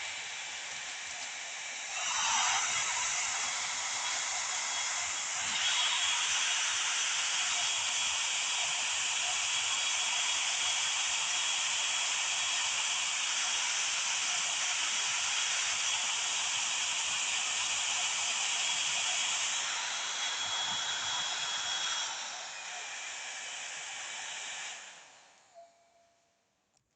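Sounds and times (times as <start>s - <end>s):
hair dryer running: 0.0s - 25.7s.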